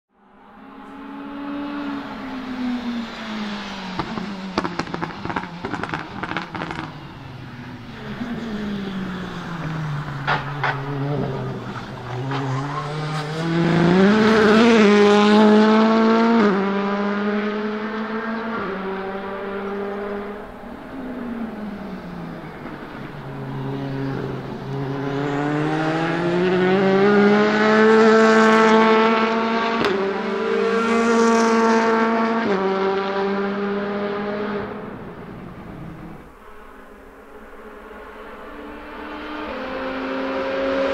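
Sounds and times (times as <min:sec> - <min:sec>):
race car engines accelerating: 0:00.3 - 0:40.9.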